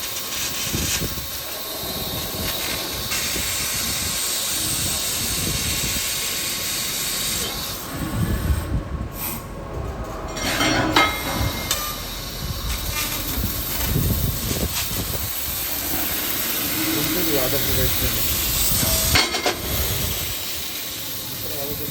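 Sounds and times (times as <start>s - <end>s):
assist gas hissing: 0.0s - 9.5s, 11.7s - 21.9s
low mechanical rumbling and knocking: 0.0s - 21.9s
sharp loud machine noise: 0.0s - 21.9s.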